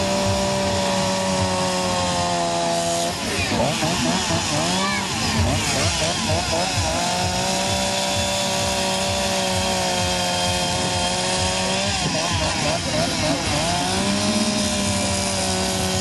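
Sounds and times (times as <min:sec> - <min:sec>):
chainsaw revving and cutting log: 0:00.0 - 0:16.0.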